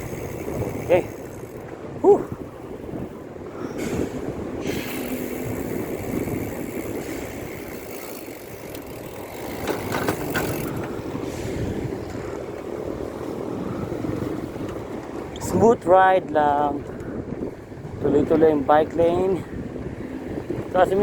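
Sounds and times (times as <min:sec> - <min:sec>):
bicycle rattles: 0:00.0 - 0:21.0
road traffic noise: 0:00.0 - 0:21.0
wind rushing over microphone: 0:00.0 - 0:21.0.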